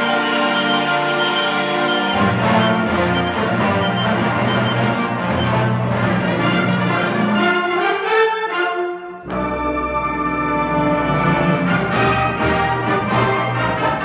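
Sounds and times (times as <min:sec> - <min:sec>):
wind band playing chords: 0:00.0 - 0:14.0.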